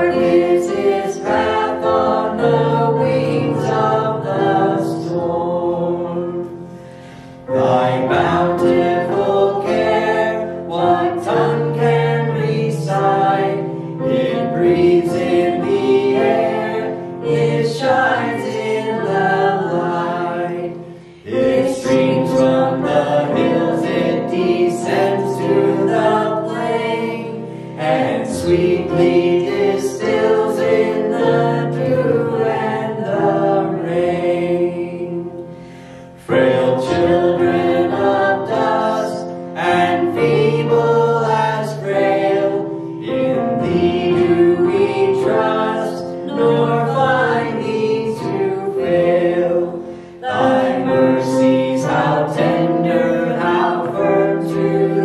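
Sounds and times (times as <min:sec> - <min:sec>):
group singing slow worship song: 0:00.0 - 0:55.0.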